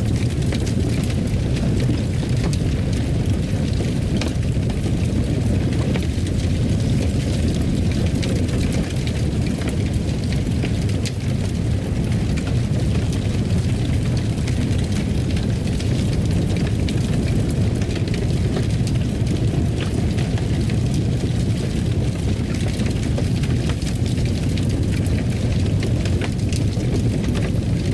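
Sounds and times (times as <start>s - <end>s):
fireplace fire crackling: 0.0s - 27.9s.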